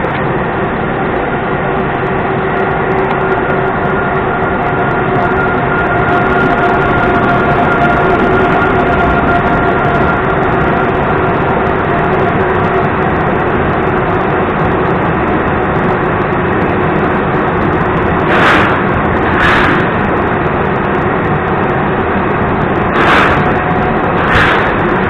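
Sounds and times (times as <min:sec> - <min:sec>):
train coaches rolling past: 0:00.0 - 0:25.0.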